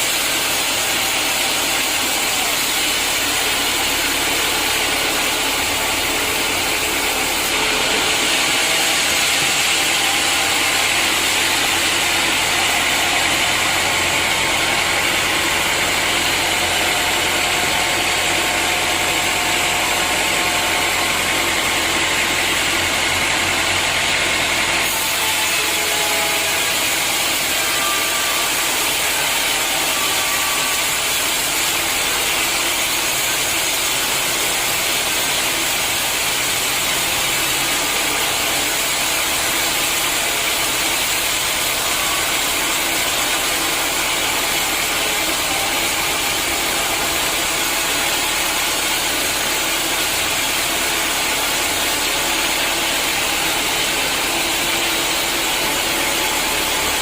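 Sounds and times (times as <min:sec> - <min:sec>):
sawmill machinery grinding: 0:00.0 - 0:57.0.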